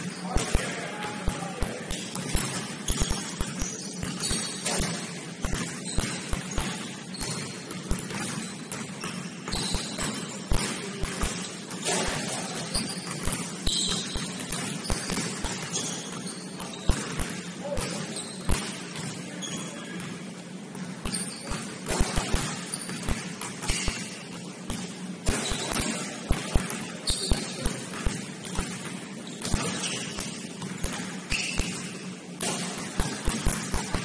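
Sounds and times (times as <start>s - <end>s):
sneakers squeaking on hardwood: 0.0s - 20.2s, 20.8s - 34.0s
basketball bouncing on gym floor: 0.0s - 34.0s.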